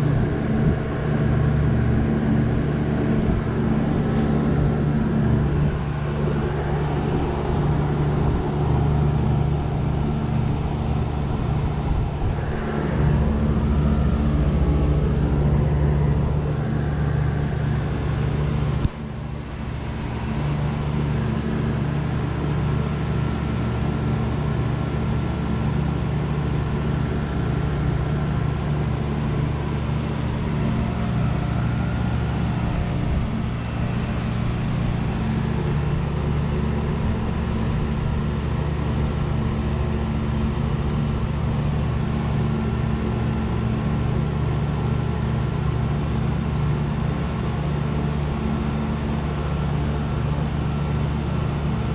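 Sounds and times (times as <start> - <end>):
heat pump humming: 0.0 - 51.9.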